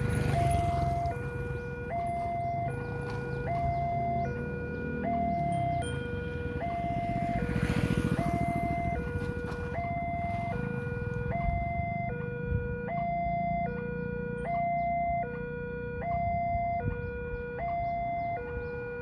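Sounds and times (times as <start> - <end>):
two-tone level crossing alarm: 0.0 - 19.0.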